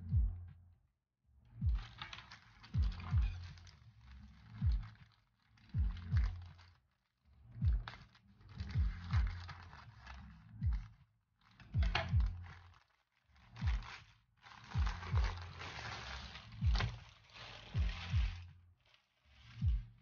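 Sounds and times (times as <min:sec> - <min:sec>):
music with deep beat: 0:00.0 - 0:00.8, 0:01.5 - 0:12.8, 0:13.4 - 0:20.0
scissors cutting plastic: 0:01.8 - 0:06.8, 0:07.8 - 0:19.8
plastic mailer crinkling: 0:01.8 - 0:20.0.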